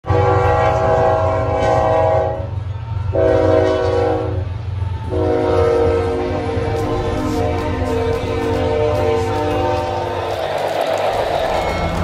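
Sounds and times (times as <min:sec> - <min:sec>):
locomotive air horn blasts: 0:00.0 - 0:10.4
passing train rumble: 0:00.0 - 0:12.0.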